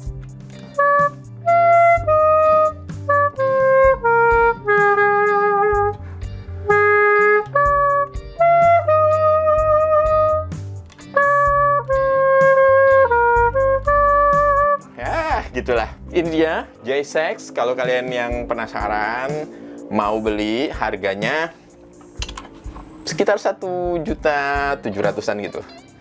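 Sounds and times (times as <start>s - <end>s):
reed instrument melody: 0.6s - 23.4s.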